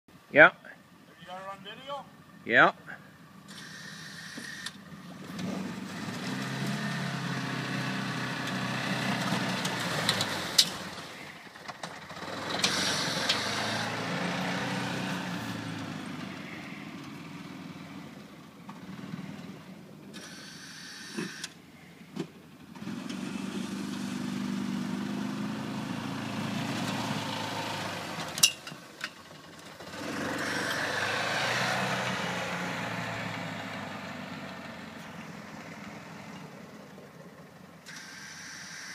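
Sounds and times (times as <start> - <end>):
utility vehicle engine revving: 3.3 - 38.9.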